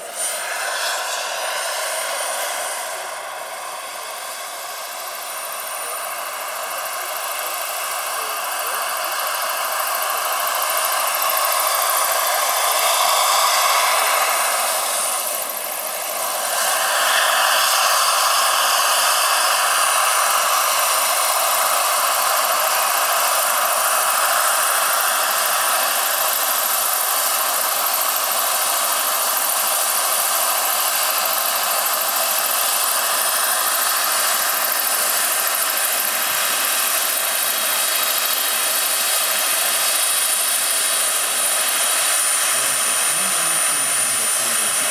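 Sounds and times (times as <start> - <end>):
model helicopter turbine whine: 0.0 - 44.9.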